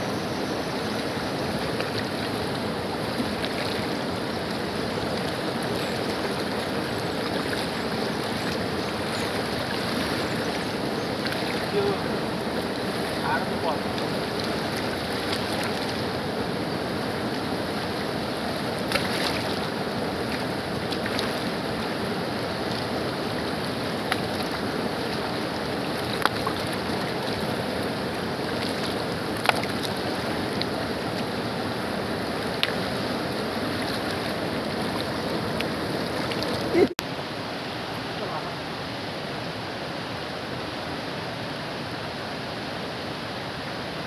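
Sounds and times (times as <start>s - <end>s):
river rushing over rocks: 0.0s - 44.0s.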